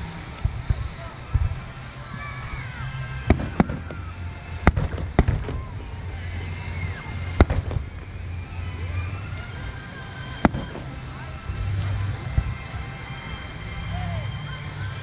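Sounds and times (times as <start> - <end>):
fireworks bursting: 0.0 - 15.0
low steady rumble: 0.0 - 15.0.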